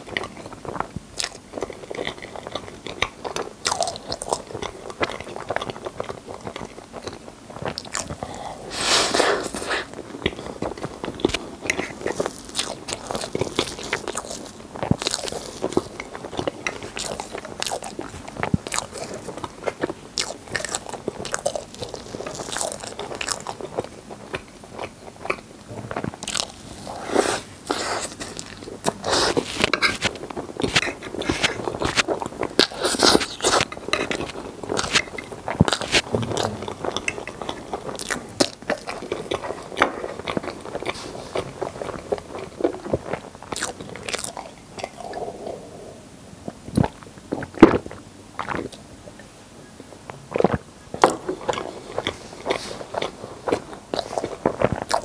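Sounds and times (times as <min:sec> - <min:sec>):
person chewing with mouth sounds: 0:00.0 - 0:45.8, 0:46.5 - 0:48.8, 0:50.3 - 0:55.0.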